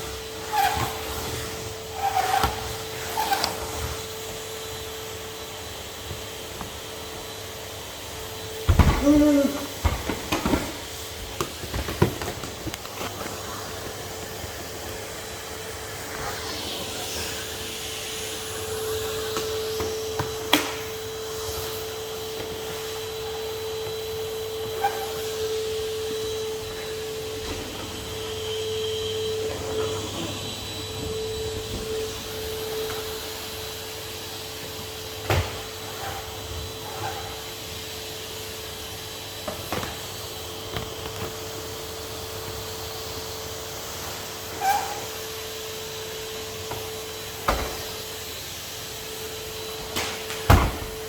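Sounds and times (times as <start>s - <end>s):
vacuum cleaner running: 0.0s - 51.0s.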